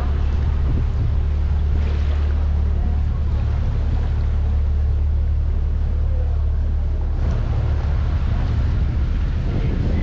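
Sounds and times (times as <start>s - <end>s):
boat motor humming: 0.0s - 10.0s
water rushing along hull: 0.0s - 10.0s.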